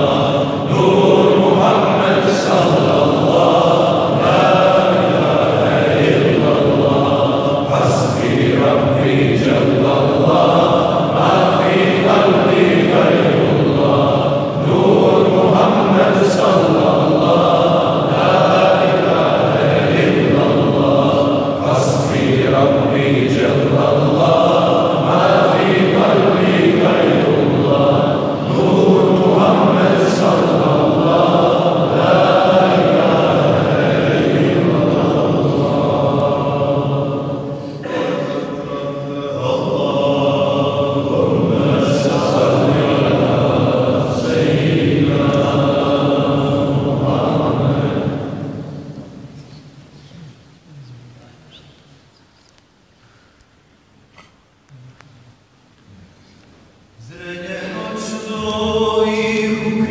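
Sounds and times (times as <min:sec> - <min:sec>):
men chanting together: 0:00.0 - 0:49.2, 0:57.0 - 0:59.9.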